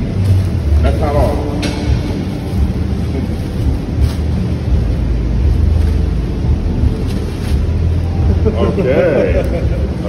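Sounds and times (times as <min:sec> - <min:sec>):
low rumble: 0:00.0 - 0:10.0
plastic bag rustling: 0:00.0 - 0:10.0.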